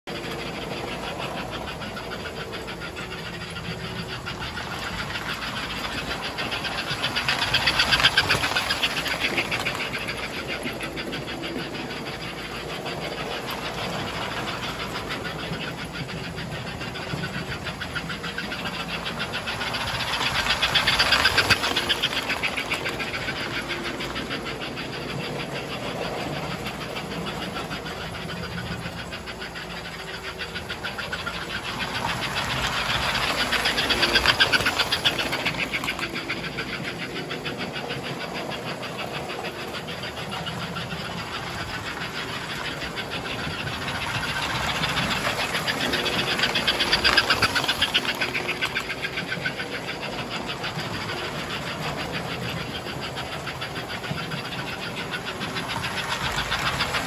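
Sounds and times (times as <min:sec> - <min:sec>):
wheels clicking over track: 0:00.0 - 0:57.0
model train motor hum: 0:00.1 - 0:57.0.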